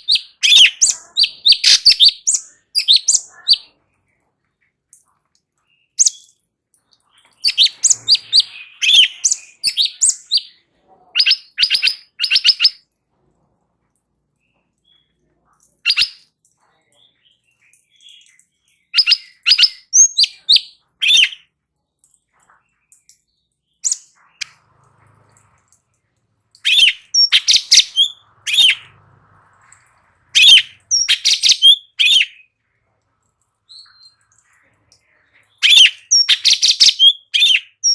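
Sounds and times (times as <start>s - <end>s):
bird chirping: 0.0s - 13.0s, 14.3s - 37.9s.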